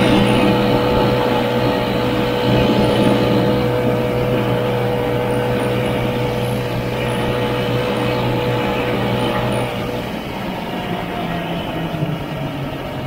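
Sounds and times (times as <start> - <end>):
snowmobile engine droning: 0.0 - 13.0.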